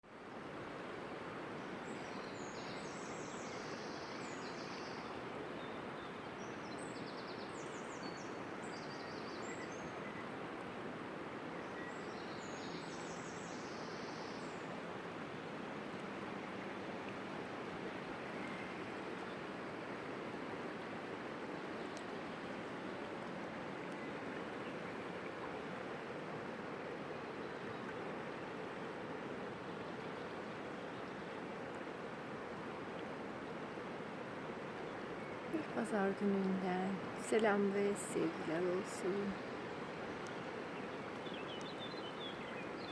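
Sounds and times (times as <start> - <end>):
stream water rushing: 0.1 - 42.9.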